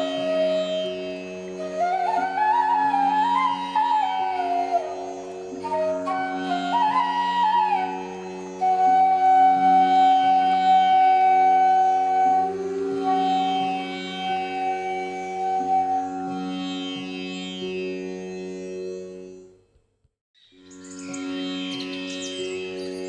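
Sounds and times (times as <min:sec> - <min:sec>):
gliding melody over a drone: 0:00.0 - 0:19.4, 0:20.6 - 0:23.0.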